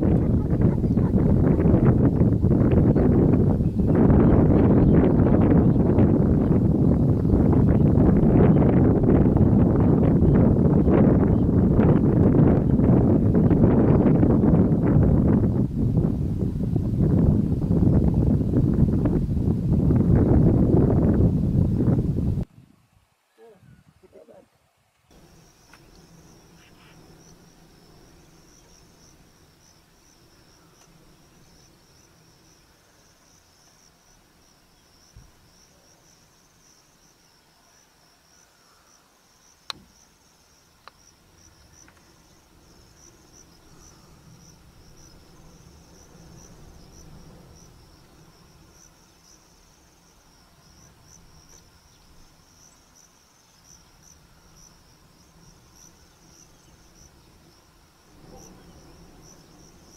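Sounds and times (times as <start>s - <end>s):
insects chirring: 0.0s - 22.4s, 25.1s - 59.9s.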